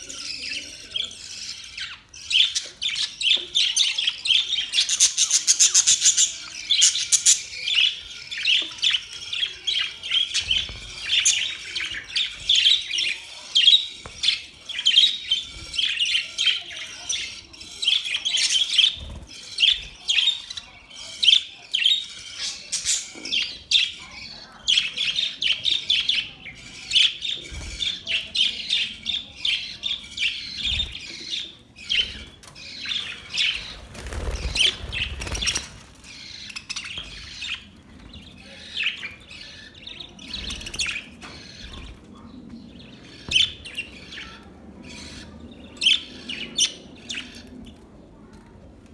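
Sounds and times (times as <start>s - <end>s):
budgerigars chirping: 0.1s - 41.9s.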